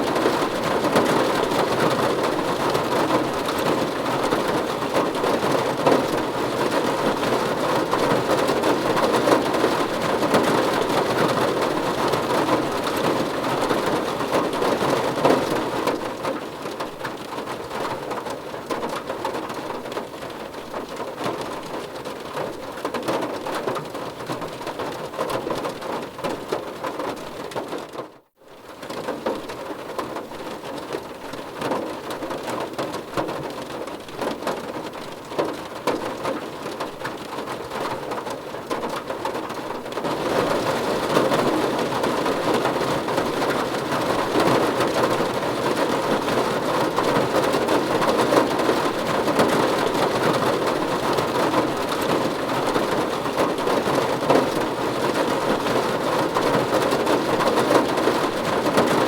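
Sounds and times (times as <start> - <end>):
heavy rain on car roof: 0.0 - 59.0.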